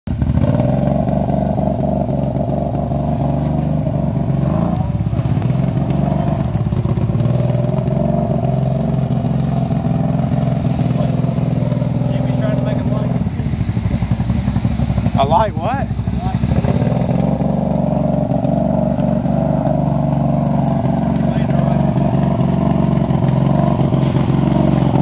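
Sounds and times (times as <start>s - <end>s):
quad bike engine running: 0.1s - 25.0s.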